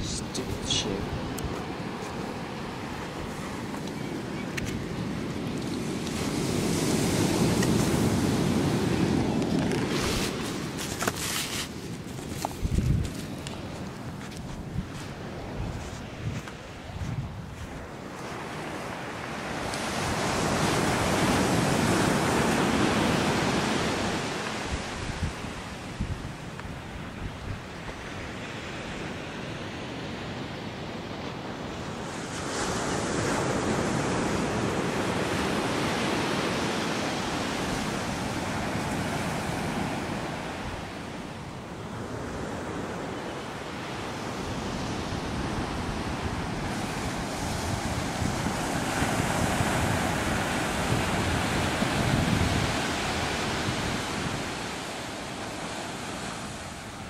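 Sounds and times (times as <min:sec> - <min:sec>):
wind on microphone: 0:00.0 - 0:43.1, 0:43.9 - 0:57.0
ocean surf on sandy beach: 0:00.0 - 0:57.0.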